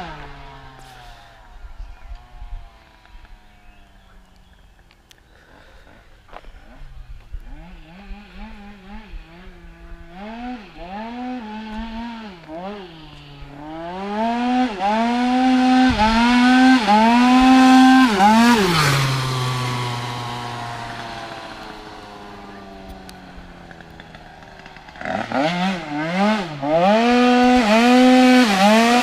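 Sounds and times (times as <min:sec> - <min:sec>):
scooter engine revving: 0:00.0 - 0:04.4, 0:05.4 - 0:29.0.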